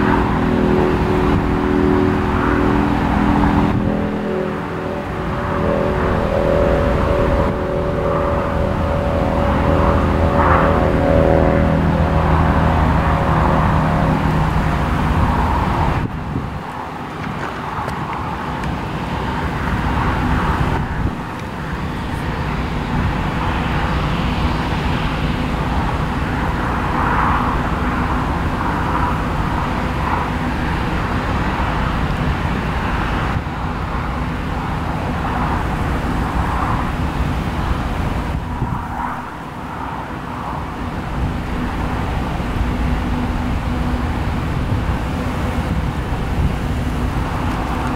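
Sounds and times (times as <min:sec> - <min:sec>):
combine harvester engine drone: 0:00.0 - 0:47.9.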